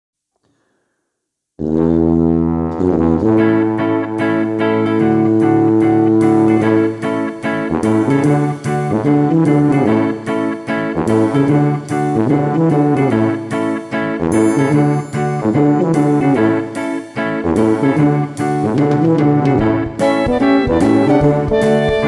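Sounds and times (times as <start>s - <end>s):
instrumental music with plucked notes: 2.6s - 22.0s.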